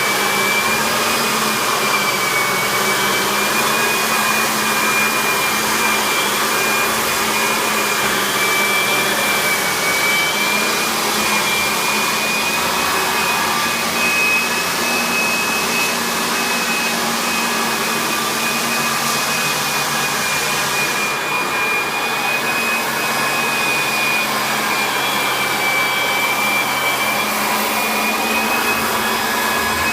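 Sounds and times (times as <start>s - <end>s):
floor sander running: 0.0s - 29.9s.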